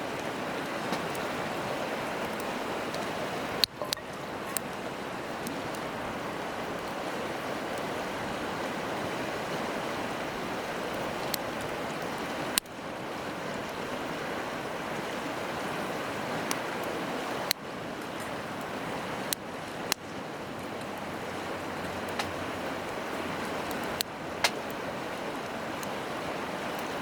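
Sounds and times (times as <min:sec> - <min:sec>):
campfire popping: 0:00.0 - 0:27.0
river water rushing: 0:00.0 - 0:27.0.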